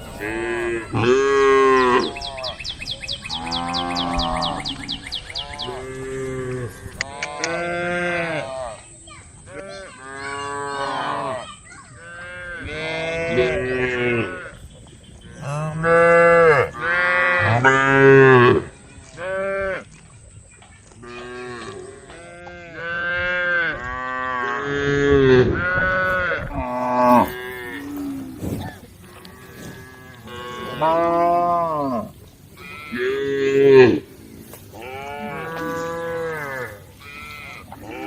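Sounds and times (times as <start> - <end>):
cows mooing: 0.0 - 2.6, 3.3 - 8.8, 12.0 - 14.6, 15.3 - 19.8, 21.0 - 38.0.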